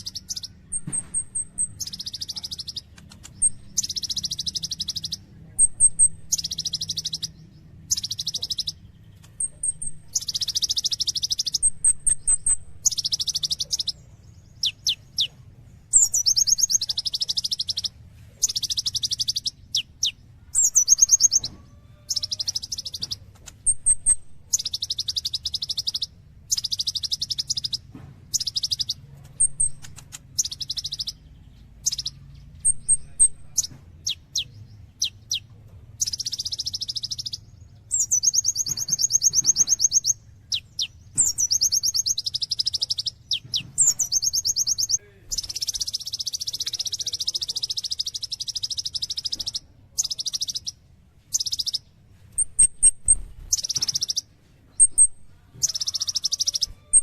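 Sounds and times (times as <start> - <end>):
high bird chips: 0.0 - 31.2, 32.8 - 57.0
bird trilled song: 0.0 - 57.0.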